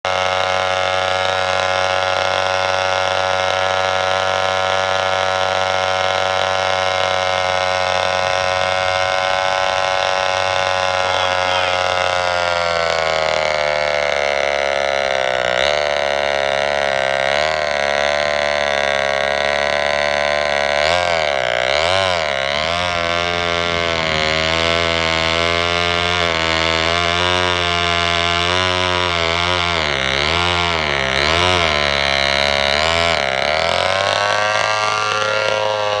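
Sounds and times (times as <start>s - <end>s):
chainsaw engine running at high revs: 0.0s - 36.0s.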